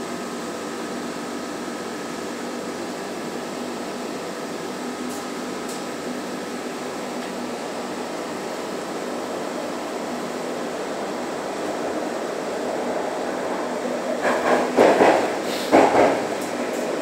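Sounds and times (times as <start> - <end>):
metro train hum and rush: 0.0 - 17.0.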